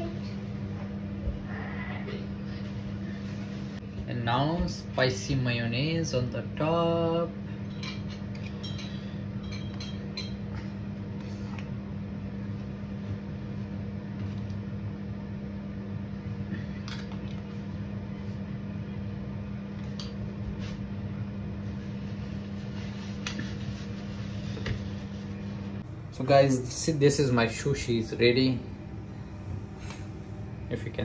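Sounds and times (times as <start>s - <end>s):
fan humming: 0.0s - 31.0s.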